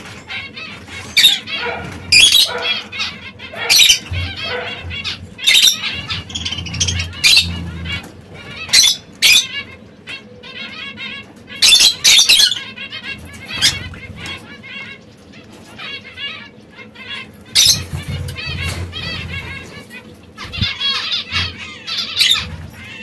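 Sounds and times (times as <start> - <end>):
canaries sharp chirps: 0.0 - 23.0.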